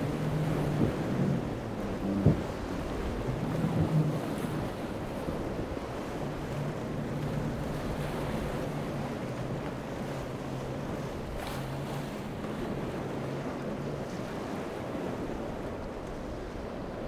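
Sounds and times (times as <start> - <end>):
outboard motors droning: 0.0 - 17.0
surf and boat spray: 0.0 - 17.0
wind on microphone: 0.0 - 17.0.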